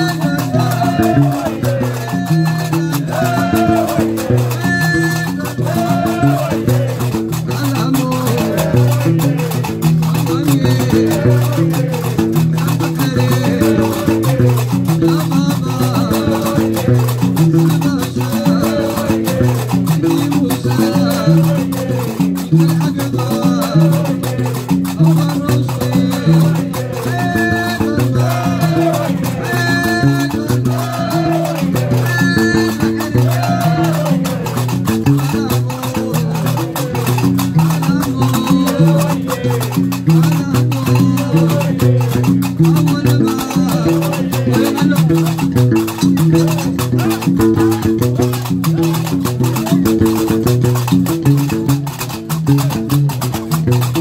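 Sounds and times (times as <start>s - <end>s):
iron castanets clacking: 0.0s - 54.0s
plucked bass line: 0.0s - 54.0s.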